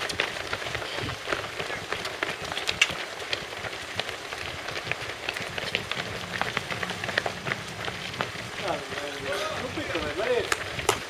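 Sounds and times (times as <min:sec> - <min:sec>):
runners' footsteps on pavement: 0:00.0 - 0:11.0.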